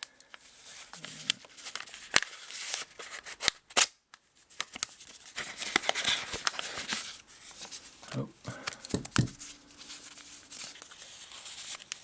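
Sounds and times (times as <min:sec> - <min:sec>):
packaging rustling: 0:00.0 - 0:03.6, 0:04.6 - 0:12.0.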